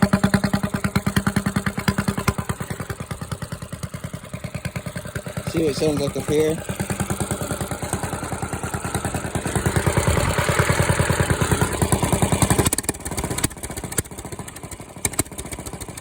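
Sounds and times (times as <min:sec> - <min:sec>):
diesel engine revving: 0:00.0 - 0:16.0.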